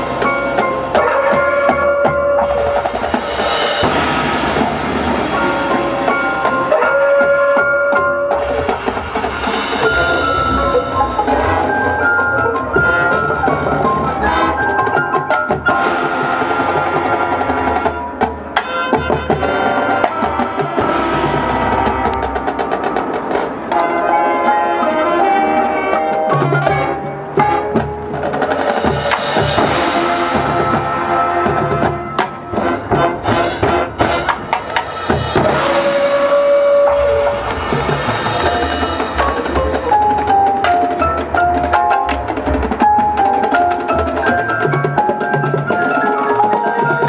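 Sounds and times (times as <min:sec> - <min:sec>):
drums and percussion hits: 0:00.0 - 0:47.0
mallet percussion: 0:00.0 - 0:47.0
marching band playing: 0:00.0 - 0:47.0.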